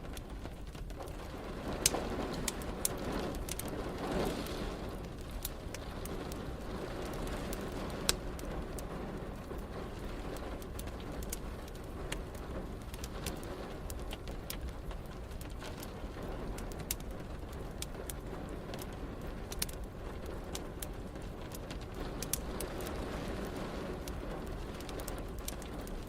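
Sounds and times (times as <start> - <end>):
rain hissing: 0.0 - 26.0
wood fire crackling: 0.0 - 26.0.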